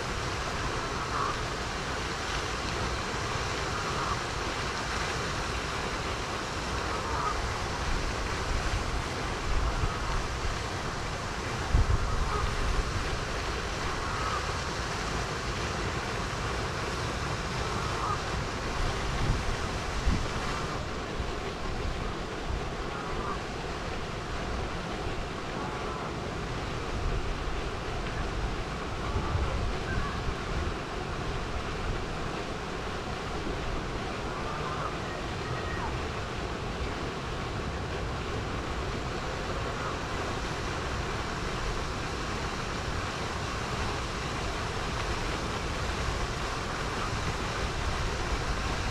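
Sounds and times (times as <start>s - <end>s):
rushing lake water: 0.0s - 48.9s
wind rumbling on microphone: 0.0s - 48.9s.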